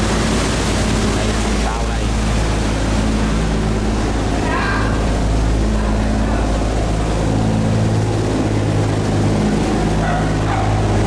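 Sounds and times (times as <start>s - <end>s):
loud engine drone: 0.0s - 11.0s
low humming tones: 0.0s - 11.0s.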